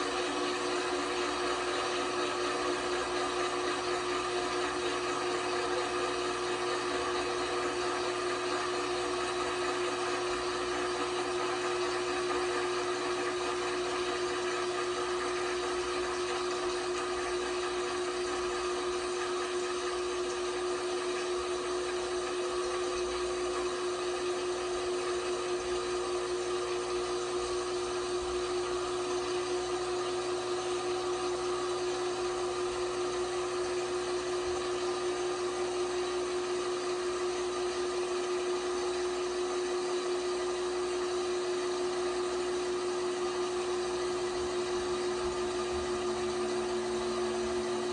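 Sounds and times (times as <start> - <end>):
washing machine motor whine: 0.0 - 47.9.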